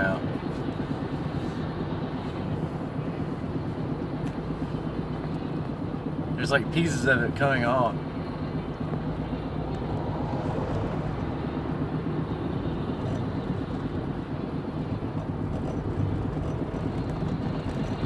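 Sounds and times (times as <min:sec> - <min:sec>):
vehicle and road rumble: 0:00.0 - 0:18.0.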